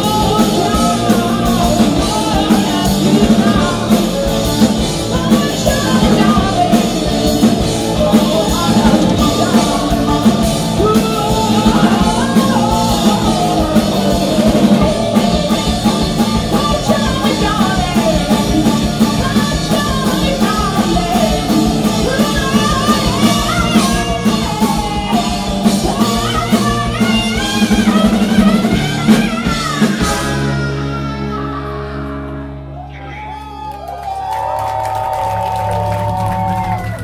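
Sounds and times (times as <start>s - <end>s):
drum kit: 0.0s - 32.1s, 34.1s - 37.0s
bass guitar: 0.0s - 37.0s
electric guitars: 0.0s - 37.0s
woman singing lead: 0.0s - 37.0s.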